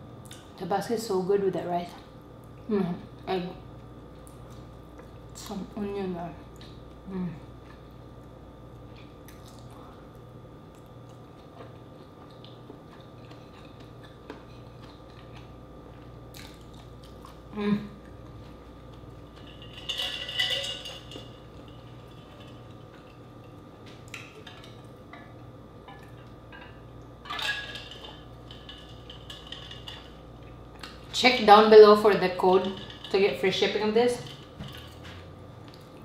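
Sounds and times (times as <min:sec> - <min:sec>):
low electrical hum: 0:00.0 - 0:36.0
quiet eating sounds: 0:01.9 - 0:05.8, 0:06.4 - 0:36.0.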